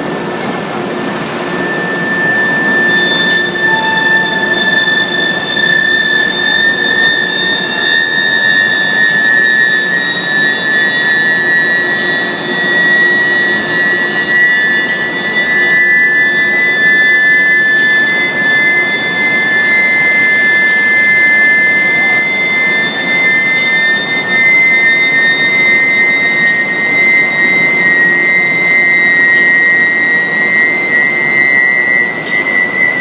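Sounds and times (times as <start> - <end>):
furnace high-pitched whine: 0.0 - 33.0.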